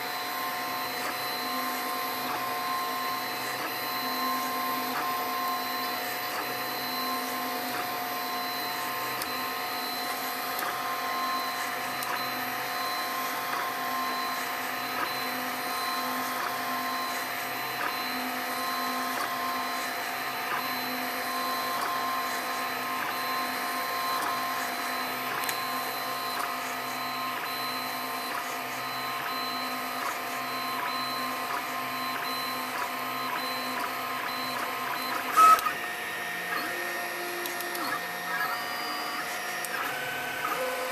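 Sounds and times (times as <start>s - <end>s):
printer motors and fan whine: 0.0s - 40.9s.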